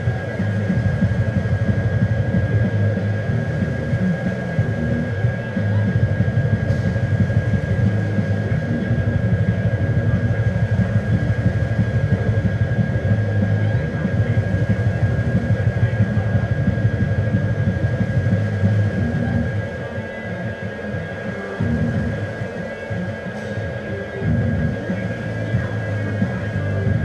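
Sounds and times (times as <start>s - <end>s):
low mechanical rumble with flutter: 0.0s - 27.0s.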